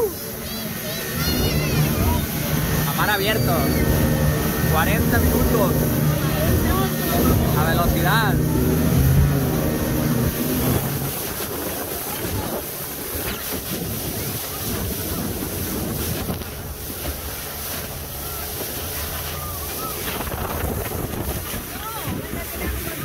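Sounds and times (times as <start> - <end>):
boat engine droning: 0.0 - 23.0
rushing water: 0.0 - 23.0
wind buffeting microphone: 0.0 - 23.0.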